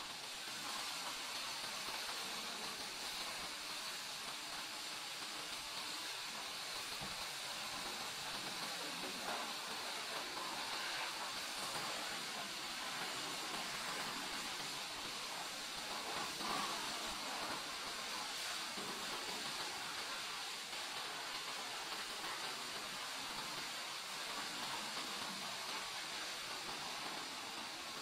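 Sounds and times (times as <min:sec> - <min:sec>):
pressure washer spraying water: 0:00.0 - 0:28.0.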